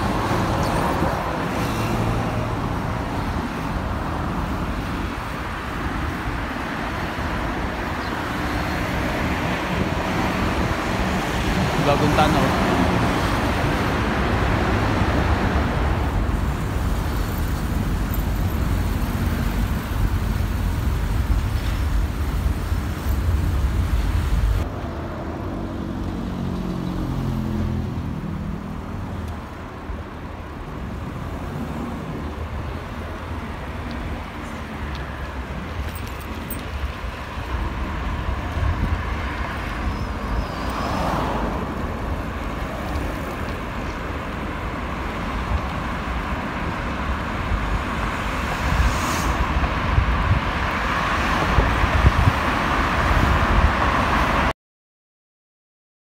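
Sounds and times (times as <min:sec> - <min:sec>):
roadside traffic noise: 0:00.0 - 0:54.6
traffic rumble in tunnel: 0:00.0 - 0:54.6.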